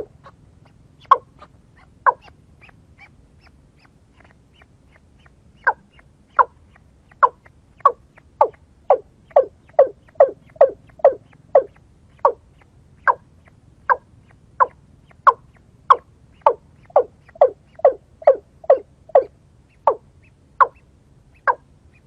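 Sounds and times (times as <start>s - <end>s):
waterhen harsh calls: 0.0s - 12.4s, 13.0s - 13.3s, 13.9s - 20.8s, 21.4s - 22.0s.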